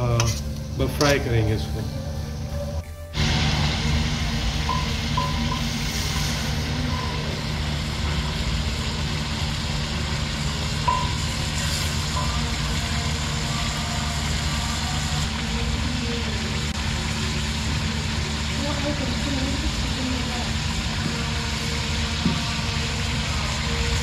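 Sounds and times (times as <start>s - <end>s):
low steady hum: 0.0s - 24.0s
chicken sizzling in deep oil: 3.2s - 24.0s.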